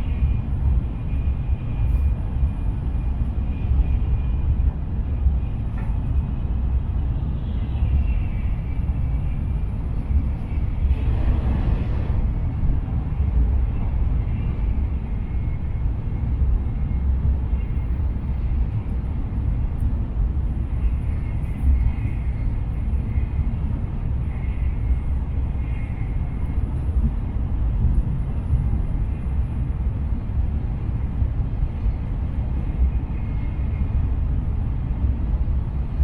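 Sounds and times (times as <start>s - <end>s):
rush of noise: 0.0s - 36.0s
train low rumble: 0.0s - 36.0s.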